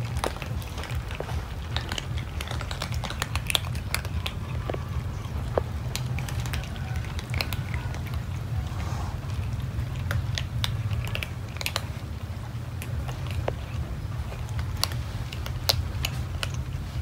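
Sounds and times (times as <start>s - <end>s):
cats crunching dry kibble: 0.0s - 17.0s
steady low hum: 0.0s - 17.0s.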